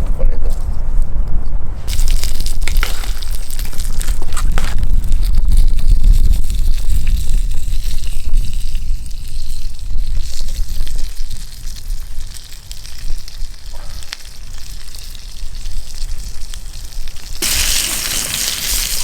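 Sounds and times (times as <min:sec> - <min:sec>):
faint fire crackles: 0:01.8 - 0:19.0
steaks sizzling over campfire: 0:01.9 - 0:19.0.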